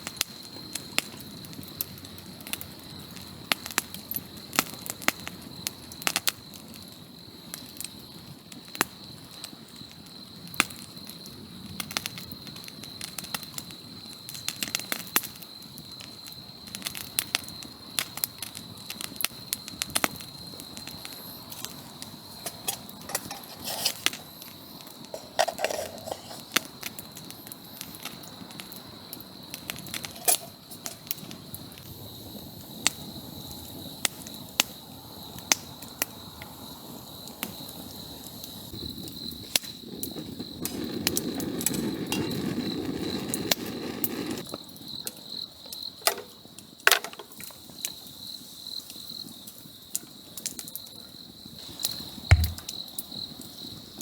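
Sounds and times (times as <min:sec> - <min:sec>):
campfire crackling and popping: 0:00.0 - 0:54.0
insects chirring: 0:00.0 - 0:54.0.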